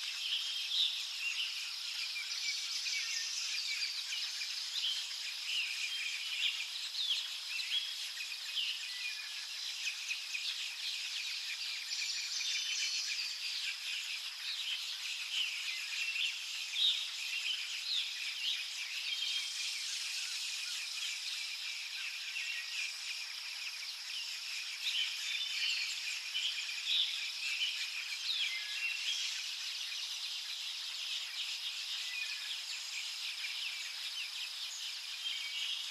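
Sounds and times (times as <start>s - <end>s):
high insect drone: 0.0s - 35.9s
small birds chirping: 0.0s - 35.9s.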